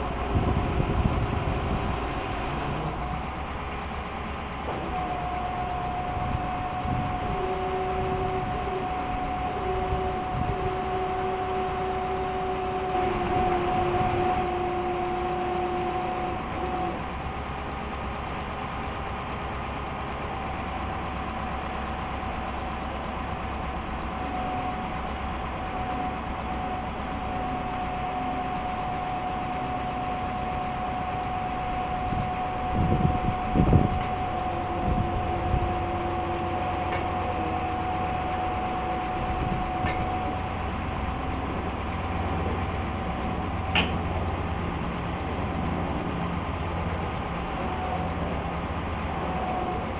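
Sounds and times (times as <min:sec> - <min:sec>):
diesel engine rumble: 0:00.0 - 0:49.9
hydraulic whine: 0:00.0 - 0:49.9.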